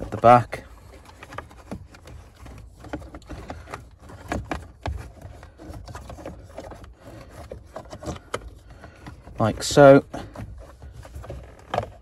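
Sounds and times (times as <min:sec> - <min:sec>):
wiring harness rustling and scraping: 0:00.0 - 0:12.0.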